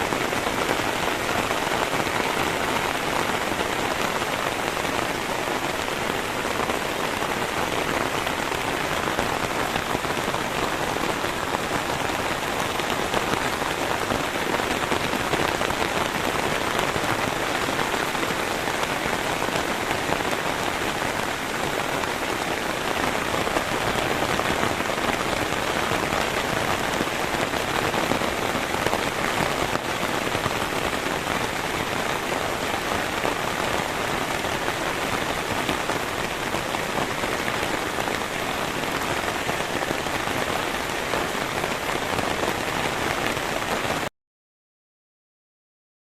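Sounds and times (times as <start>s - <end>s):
heavy rain falling: 0.0s - 44.1s.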